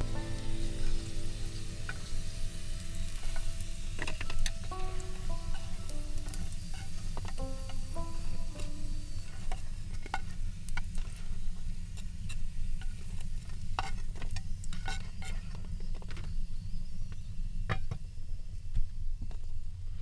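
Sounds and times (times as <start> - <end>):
bread sizzling in oil: 0.0 - 16.7.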